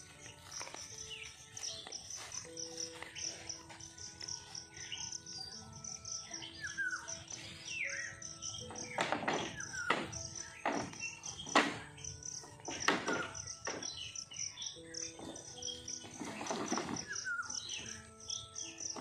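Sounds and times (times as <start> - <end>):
birds calling: 0.0 - 19.0
insects chirping: 0.0 - 19.0
soft background music: 0.0 - 19.0.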